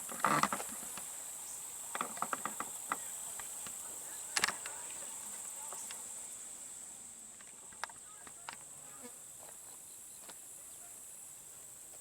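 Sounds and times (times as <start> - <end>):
field insects droning: 0.0 - 12.0.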